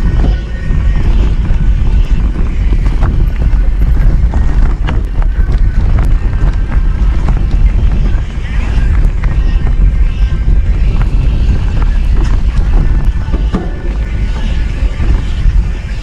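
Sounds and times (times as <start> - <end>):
bike rattling over bumps: 0.0 - 16.0
tyre and wind rumble: 0.0 - 16.0.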